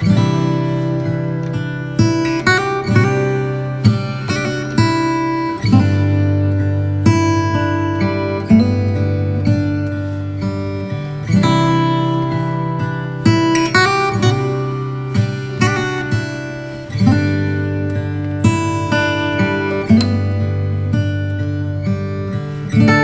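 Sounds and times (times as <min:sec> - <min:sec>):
plucked chords music: 0:00.0 - 0:23.0.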